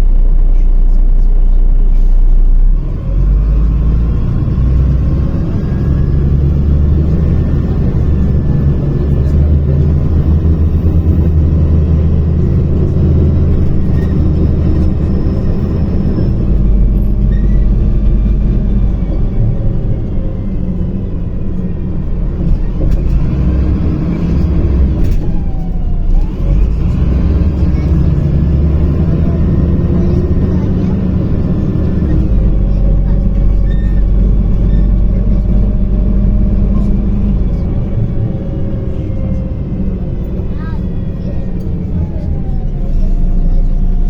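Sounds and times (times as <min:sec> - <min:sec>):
bus engine rumble from inside: 0:00.0 - 0:44.0.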